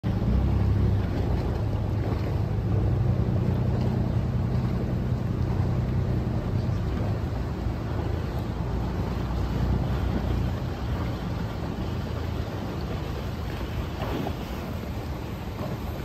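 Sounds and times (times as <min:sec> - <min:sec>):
boat engines rumbling: 0:00.0 - 0:16.0.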